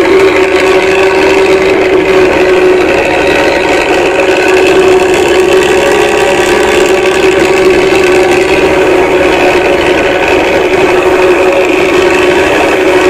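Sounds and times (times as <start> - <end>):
diesel bus engine running: 0.0 - 13.0.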